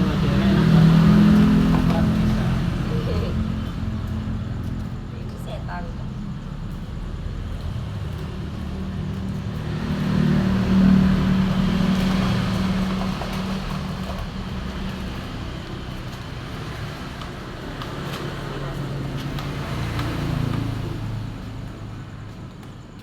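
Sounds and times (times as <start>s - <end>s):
vehicle passing close: 0.0s - 5.5s, 7.8s - 22.3s
road traffic: 0.0s - 23.0s.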